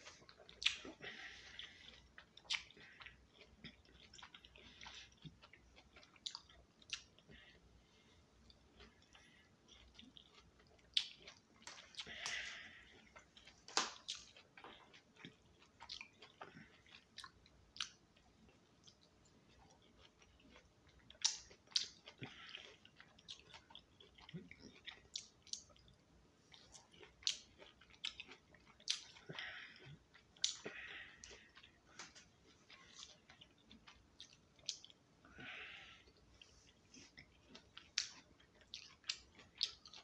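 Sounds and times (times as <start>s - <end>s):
person chewing orange slices: 0.0s - 40.0s.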